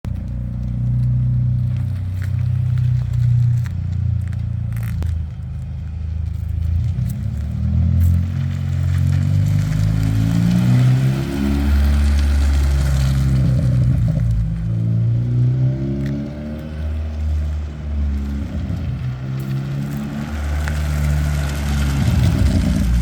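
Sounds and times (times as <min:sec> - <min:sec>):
exhaust pops and crackles: 0:00.0 - 0:23.0
car exhaust at low revs: 0:00.1 - 0:23.0.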